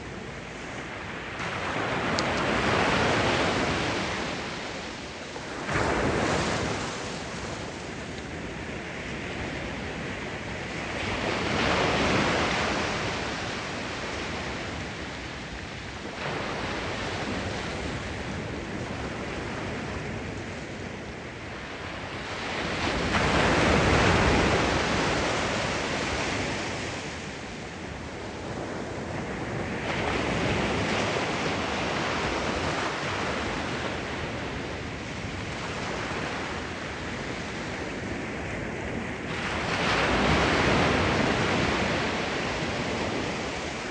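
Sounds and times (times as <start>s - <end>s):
sea waves breaking on shore: 0.0s - 43.9s
wind noise on microphone: 0.0s - 43.9s.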